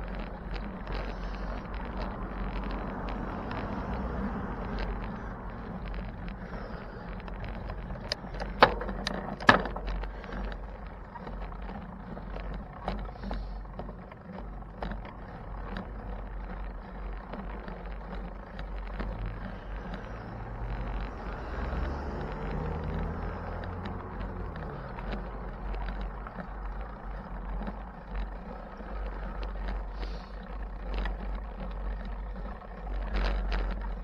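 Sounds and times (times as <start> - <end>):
bicycle rumble: 0.0 - 34.0
small rattles and clicks: 0.0 - 34.0
vehicle engine hum: 0.0 - 34.0.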